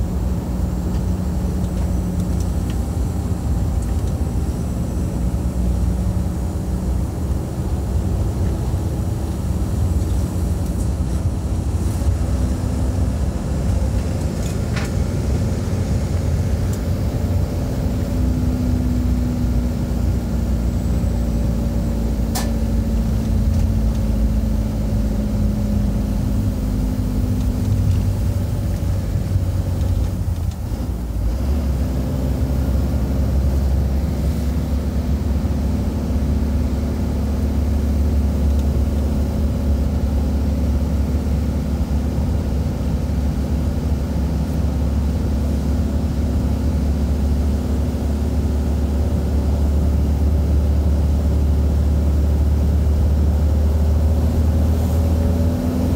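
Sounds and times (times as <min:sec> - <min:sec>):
vehicle engine and road noise: 0:00.0 - 0:55.9.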